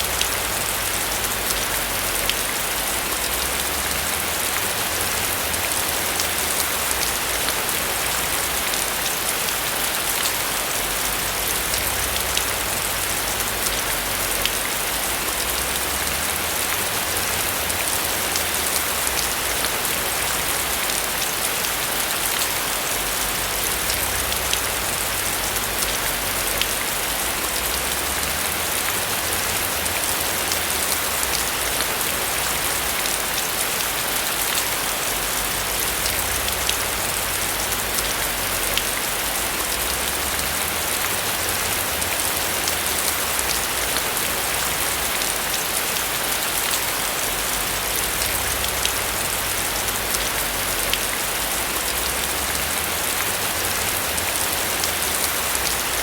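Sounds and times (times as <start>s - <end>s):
rain falling on a roof: 0.0s - 56.0s.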